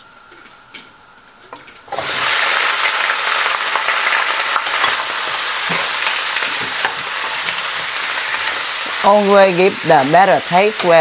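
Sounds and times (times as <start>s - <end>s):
chicken sizzling in hot oil: 1.9s - 11.0s.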